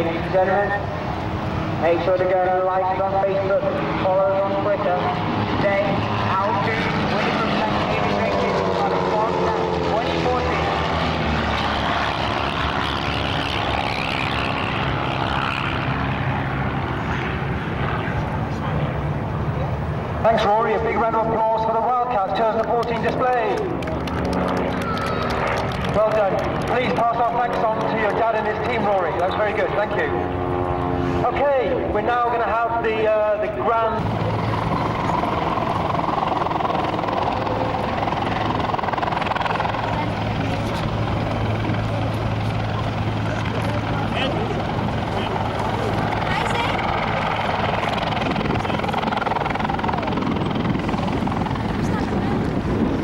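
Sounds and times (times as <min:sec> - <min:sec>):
propeller plane engine running: 0:00.0 - 0:53.0.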